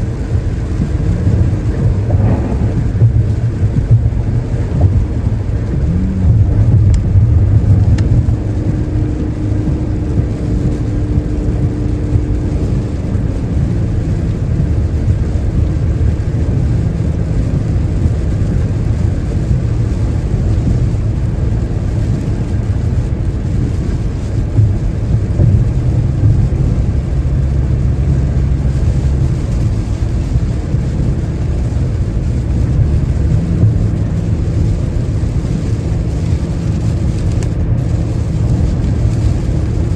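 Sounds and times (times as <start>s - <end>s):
car driving in rain: 0.0s - 39.9s
tyre noise on wet road: 0.0s - 39.9s.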